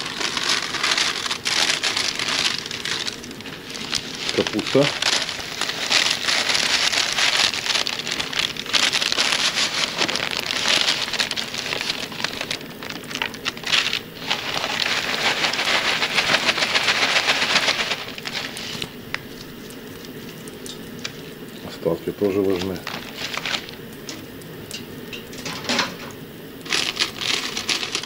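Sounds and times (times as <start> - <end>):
dry flakes crackling in plastic bag: 0.0 - 24.4, 26.6 - 28.0.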